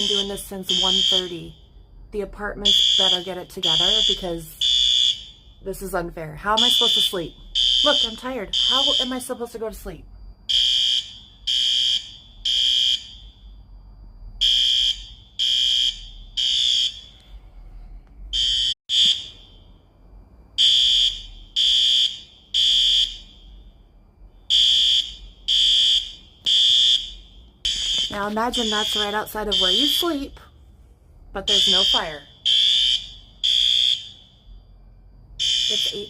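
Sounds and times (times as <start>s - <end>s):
fire alarm beeping: 0.0s - 13.7s, 14.4s - 17.4s, 18.3s - 19.9s, 20.6s - 30.5s, 31.4s - 34.7s, 35.4s - 36.0s.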